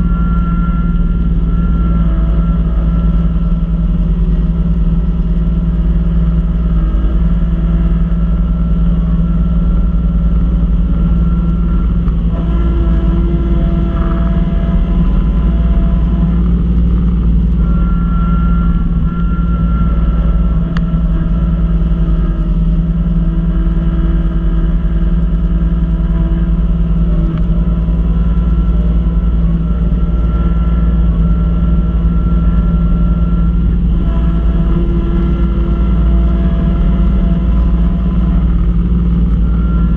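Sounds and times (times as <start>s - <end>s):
snow blower whines: 0.0s - 39.9s
tractor diesel engine running: 0.0s - 39.9s.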